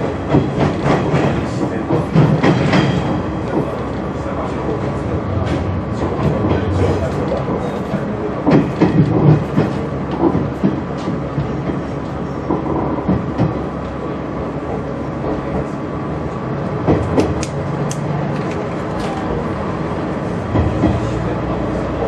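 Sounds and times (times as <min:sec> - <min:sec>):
wheels clacking over rail joints: 0:00.0 - 0:14.0, 0:16.4 - 0:22.0
train running noise: 0:00.0 - 0:22.0.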